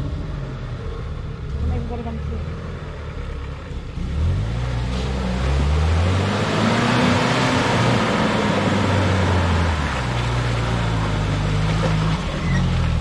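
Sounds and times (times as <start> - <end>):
car engine at low speed: 0.0 - 13.0.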